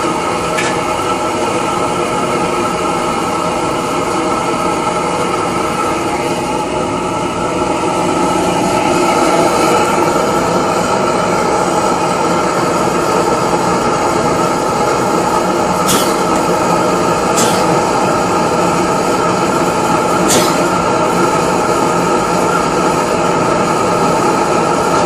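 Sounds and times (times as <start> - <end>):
blowtorch flame rushing: 0.0 - 25.0.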